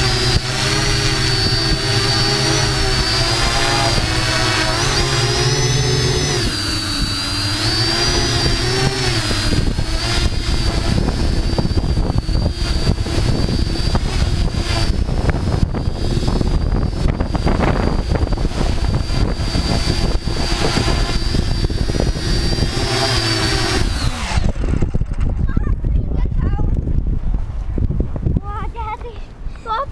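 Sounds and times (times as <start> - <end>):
drone motors whining: 0.0 - 25.5
wind rumbling on microphone: 0.0 - 29.9.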